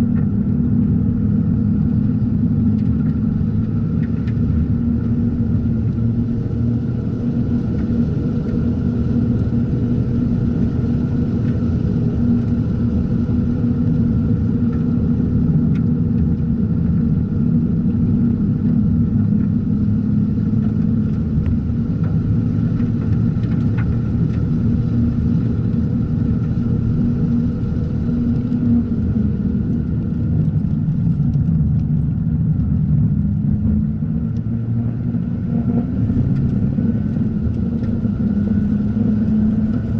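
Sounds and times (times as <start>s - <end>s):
rotary engine running hard: 0.0s - 39.9s.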